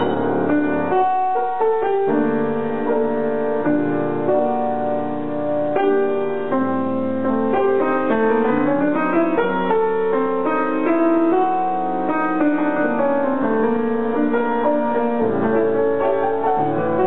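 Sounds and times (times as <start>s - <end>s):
grand piano melody over chords: 0.0s - 17.0s.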